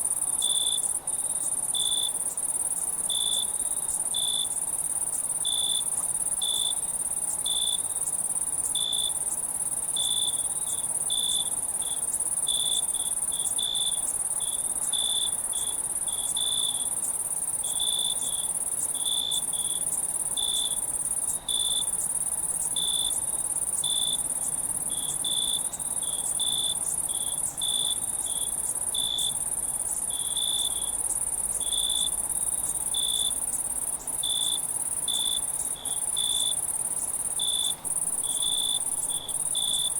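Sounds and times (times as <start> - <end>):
cricket chirps: 0.0 - 39.9
crickets trilling: 0.0 - 39.9.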